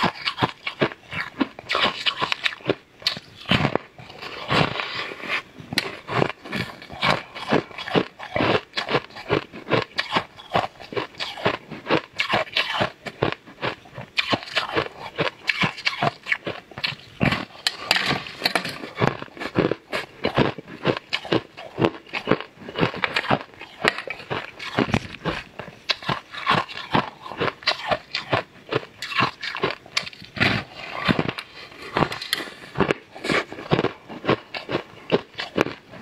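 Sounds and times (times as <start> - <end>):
crunching hard candy: 0.0 - 36.0.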